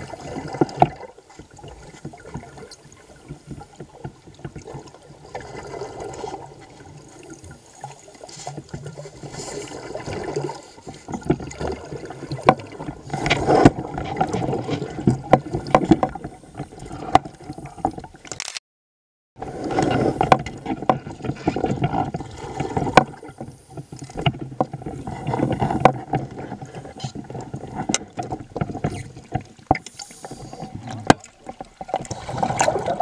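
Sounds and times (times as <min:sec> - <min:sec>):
underwater air bubbling: 0:00.0 - 0:18.2, 0:19.4 - 0:33.0.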